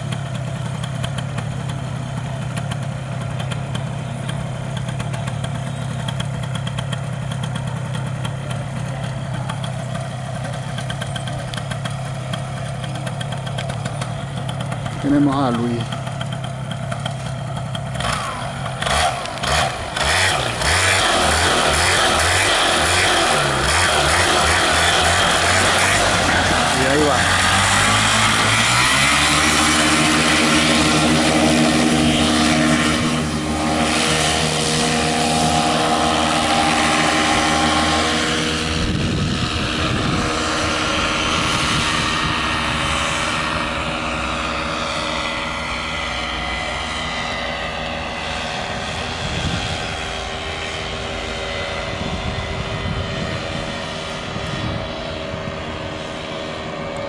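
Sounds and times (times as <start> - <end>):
paramotor engine droning: 0.0 - 57.0.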